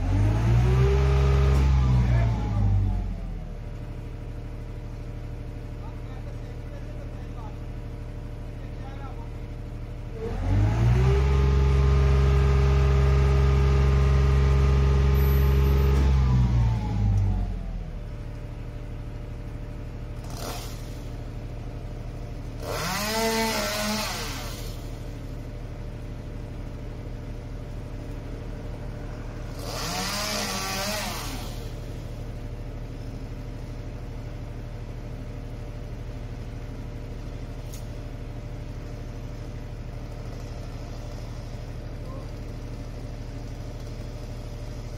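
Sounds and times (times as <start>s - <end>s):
truck engine revving and idling: 0.0s - 44.9s.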